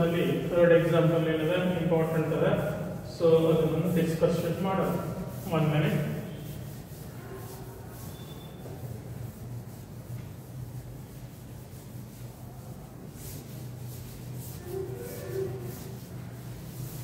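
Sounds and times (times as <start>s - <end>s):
duster rubbing on chalkboard: 0.0s - 17.0s
steady low hum: 0.0s - 17.0s.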